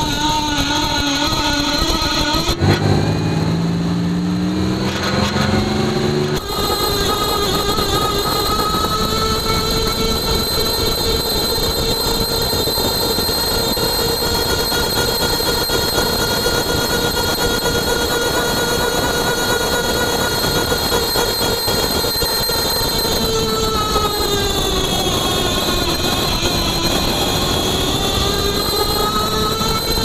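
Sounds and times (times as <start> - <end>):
axle whine: 0.0 - 30.0
road and wind rush: 0.0 - 30.0.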